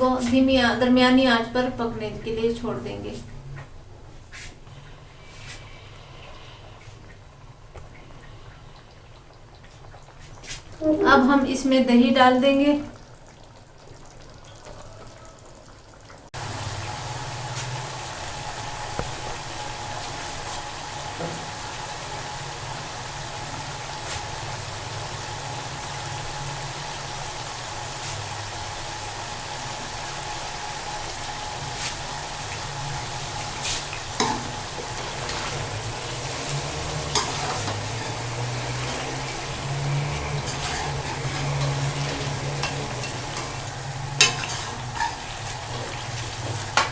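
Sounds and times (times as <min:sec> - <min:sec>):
onions sizzling in a pan: 0:07.8 - 0:46.9.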